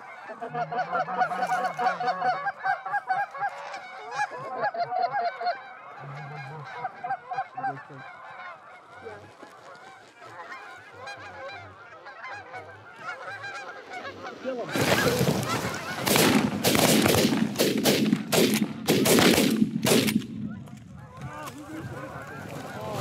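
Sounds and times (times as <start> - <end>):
geese honking: 0.0 - 19.1, 19.8 - 23.0.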